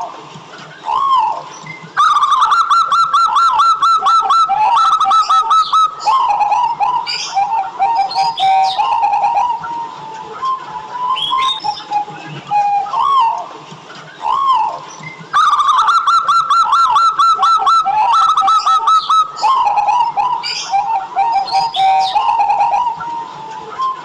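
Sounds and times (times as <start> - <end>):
dove cooing: 0.8 - 13.5, 14.1 - 24.0.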